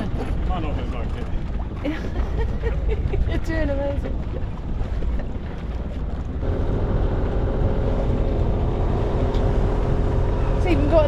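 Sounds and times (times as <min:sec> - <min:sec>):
boat engine humming: 0:00.0 - 0:11.0
wind buffeting microphone: 0:00.0 - 0:11.0.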